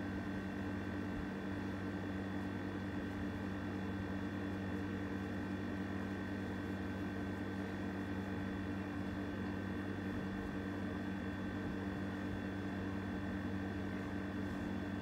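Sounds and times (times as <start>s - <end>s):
steady machine hum with hiss: 0.0s - 15.0s.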